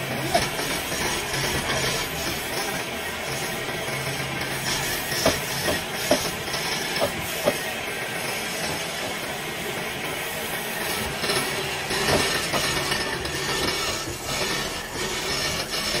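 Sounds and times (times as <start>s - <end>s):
wood lathe hissing scrape: 0.0s - 16.0s.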